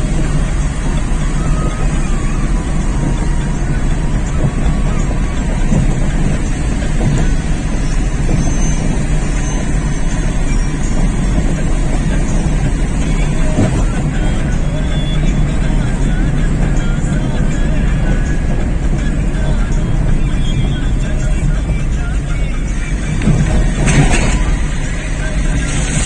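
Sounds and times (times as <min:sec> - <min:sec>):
vehicle interior running noise: 0:00.0 - 0:26.0.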